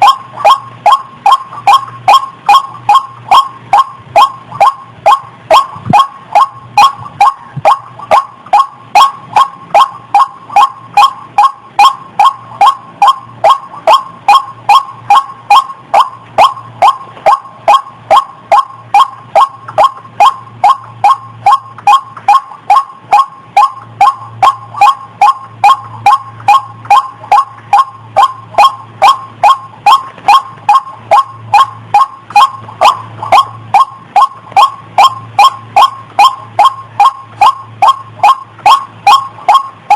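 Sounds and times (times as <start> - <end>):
faint low hum: 0.0 - 39.9
waterhen calling: 0.0 - 39.9.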